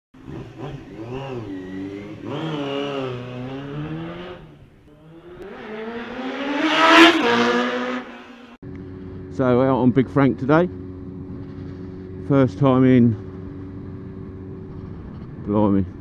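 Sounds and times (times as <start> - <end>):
motorcycle engine revving: 0.2 - 16.0.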